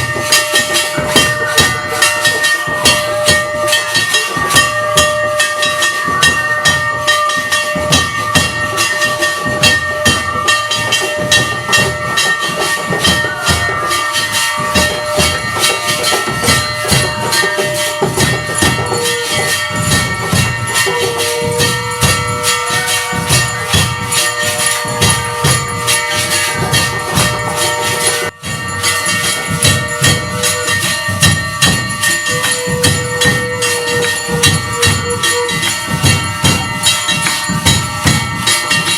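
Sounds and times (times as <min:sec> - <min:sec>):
bells and cymbals clanging: 0:00.0 - 0:38.9
drum beats: 0:00.0 - 0:38.9.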